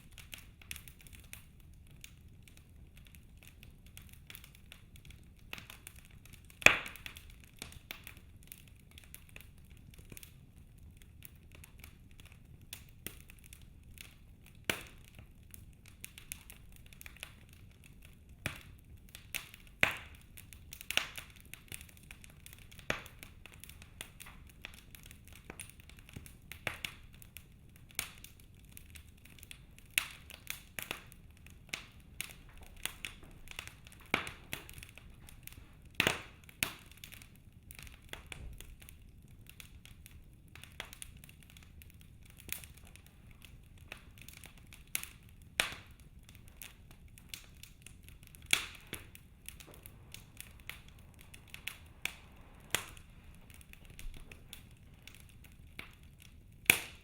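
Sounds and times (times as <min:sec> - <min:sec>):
faint background noise: 0:00.0 - 0:57.0
wood fire crackling: 0:00.0 - 0:57.0.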